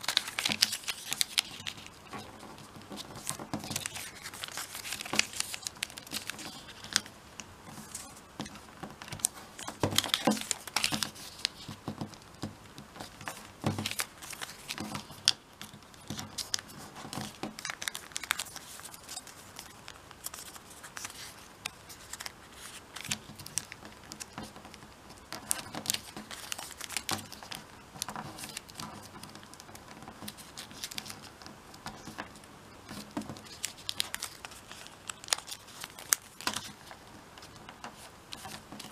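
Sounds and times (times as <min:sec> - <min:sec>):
paper crackling on folds: 0:00.0 - 0:38.9
paper crinkling and rustling: 0:00.0 - 0:38.9.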